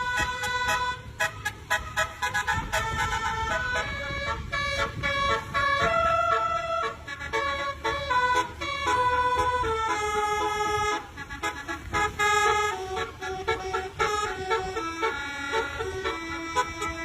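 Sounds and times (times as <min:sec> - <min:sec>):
musical vehicle horn tune: 0:00.0 - 0:17.0.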